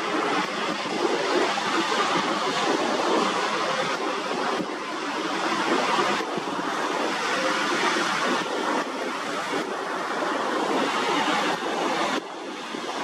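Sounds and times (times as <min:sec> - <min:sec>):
small waves breaking on a beach: 0:00.0 - 0:13.0.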